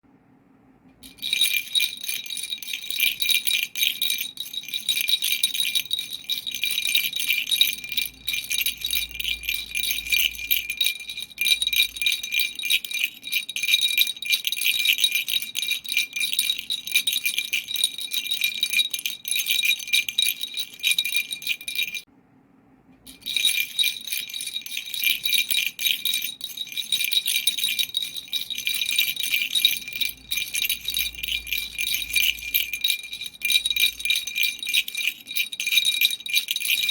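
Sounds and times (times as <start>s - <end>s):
toy rattle jingling: 1.0s - 22.1s, 23.1s - 36.9s.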